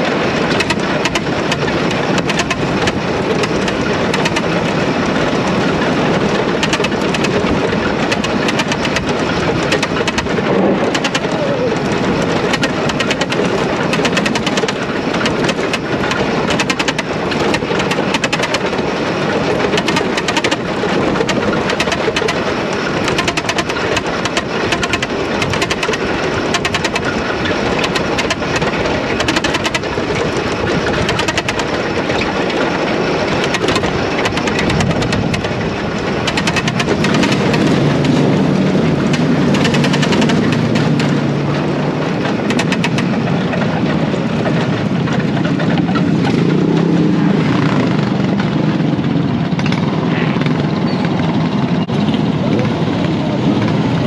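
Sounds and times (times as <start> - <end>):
engine running hard: 0.0 - 54.0
wind rumble on microphone: 0.0 - 54.0.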